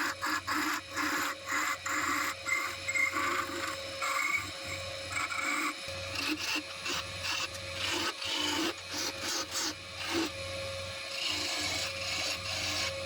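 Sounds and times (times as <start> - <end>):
tool scraping spinning wood: 0.0 - 10.4, 11.1 - 13.0
wood lathe humming: 0.0 - 13.0.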